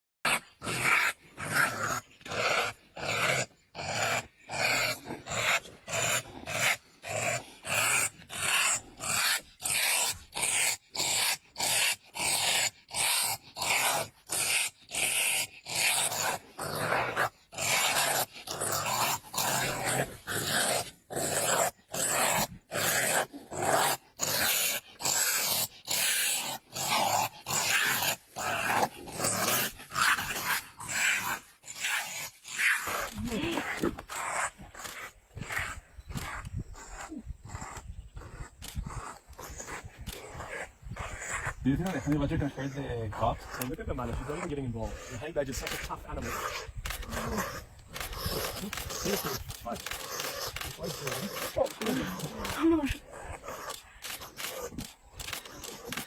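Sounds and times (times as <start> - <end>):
animal growling: 0.3 - 56.0.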